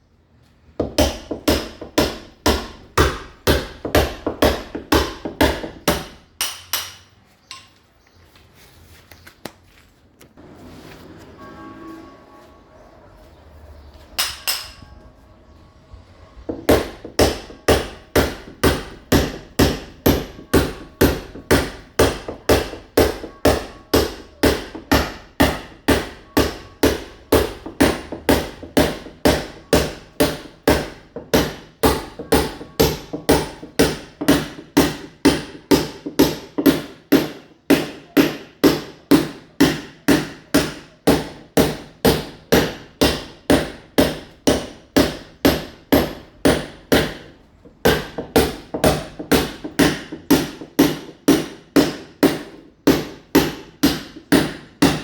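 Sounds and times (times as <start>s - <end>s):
hammer striking masonry wall: 0.8s - 7.8s, 14.1s - 14.9s, 16.4s - 55.0s.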